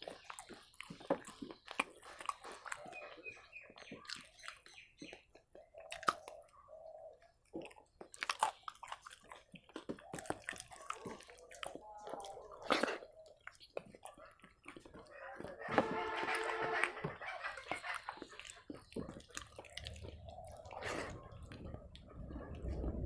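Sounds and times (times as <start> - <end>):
close chewing with lip smacks: 0.0 - 23.0.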